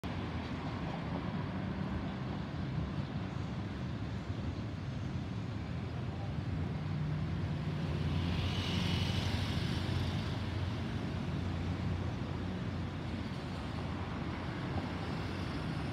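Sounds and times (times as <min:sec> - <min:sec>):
jet engines passing overhead: 0:00.1 - 0:15.9.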